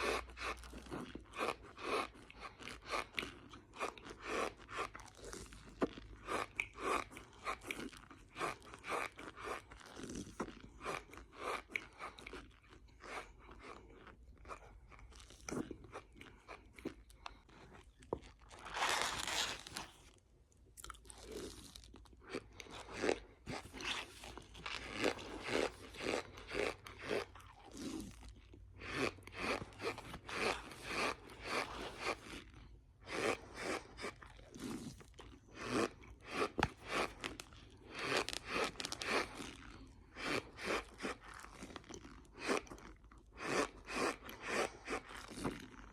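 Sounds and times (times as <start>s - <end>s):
squeaky crunchy chewing: 0.0s - 45.9s.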